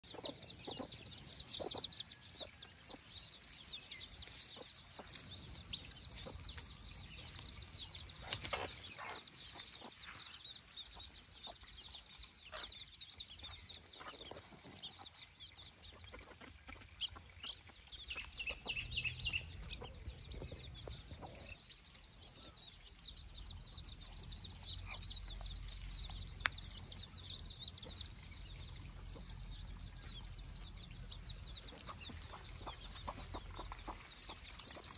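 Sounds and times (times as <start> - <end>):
hen clucking: 0.0 - 11.7, 13.4 - 21.7, 24.0 - 34.9
chicks peeping: 0.0 - 34.9.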